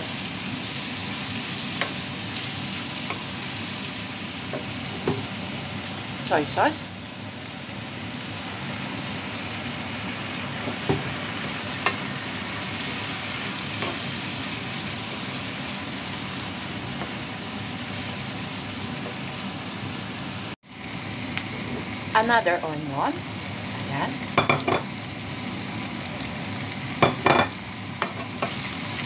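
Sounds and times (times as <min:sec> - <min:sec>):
meat sizzling in a pan: 0:00.0 - 0:29.0.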